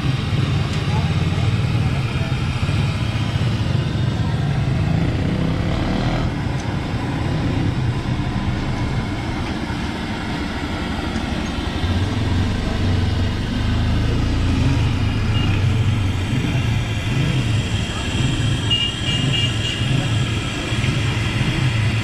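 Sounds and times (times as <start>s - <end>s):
deep engine hum: 0.0s - 22.0s
vehicle engines running: 0.0s - 22.0s.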